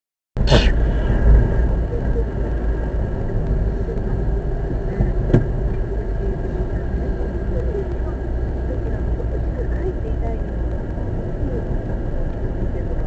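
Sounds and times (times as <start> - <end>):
road and engine rumble in car: 0.4 - 13.0.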